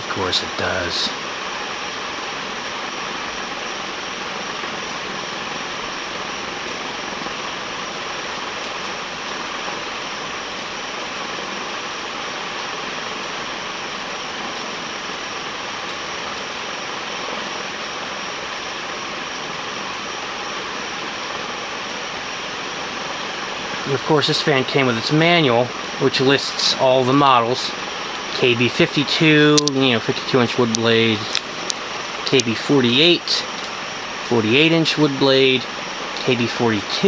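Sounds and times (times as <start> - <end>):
ceiling fan rushing air: 0.0 - 37.0.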